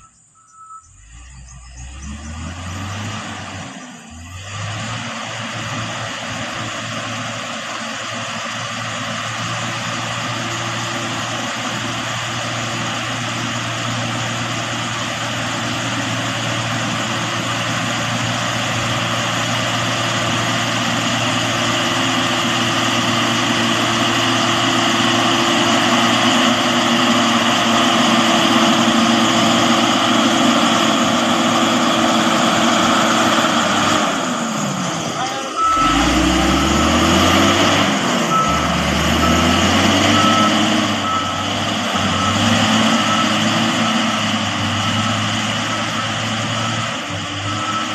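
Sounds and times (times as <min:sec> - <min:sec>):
grader diesel engine running: 0:00.0 - 0:47.9.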